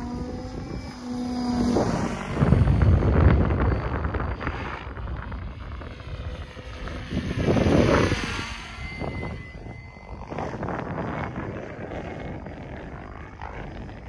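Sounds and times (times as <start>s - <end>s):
rc helicopter rotor whine: 0.0s - 14.0s.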